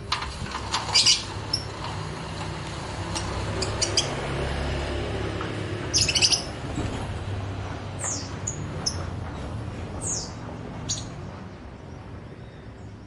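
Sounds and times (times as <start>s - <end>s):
songbirds chirping: 0.7s - 4.6s, 5.2s - 13.0s.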